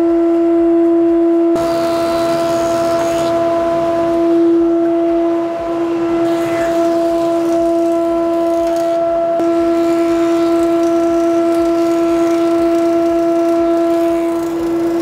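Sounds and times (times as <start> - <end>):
planer whining idle: 1.6 - 15.0.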